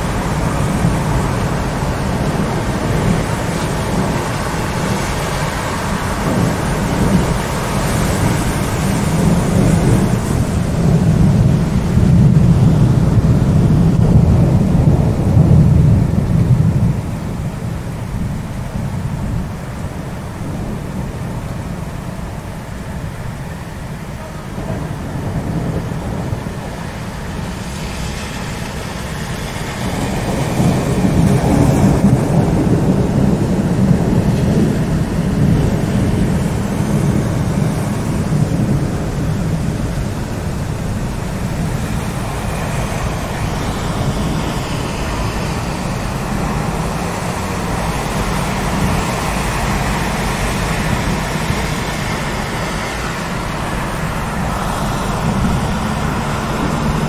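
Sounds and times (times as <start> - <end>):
low rumble of thunder: 0.0 - 57.0
steady rain: 0.0 - 57.0.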